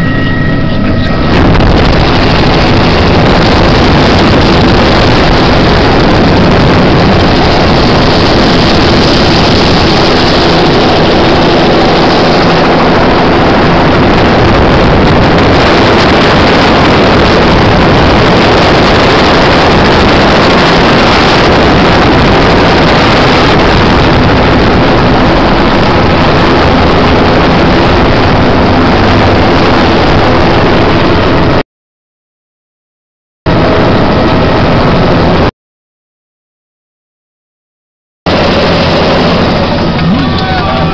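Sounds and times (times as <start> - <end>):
helicopter engine and rotor: 0.0 - 31.6, 33.5 - 35.5, 38.3 - 40.9.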